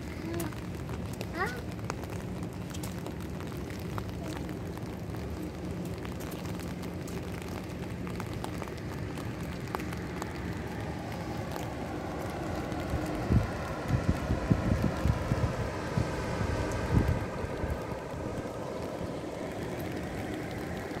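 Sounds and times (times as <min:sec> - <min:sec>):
steady rain hiss: 0:00.0 - 0:21.0
wind buffeting microphone: 0:02.3 - 0:21.0.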